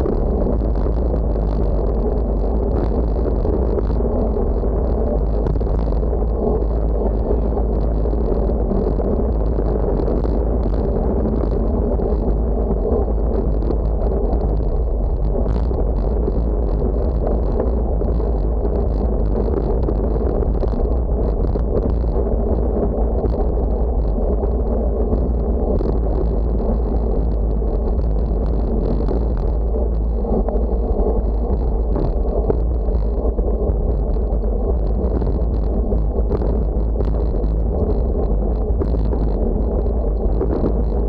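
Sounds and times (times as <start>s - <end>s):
road noise: 0.0s - 41.0s
wind buffeting the microphone: 0.0s - 41.0s.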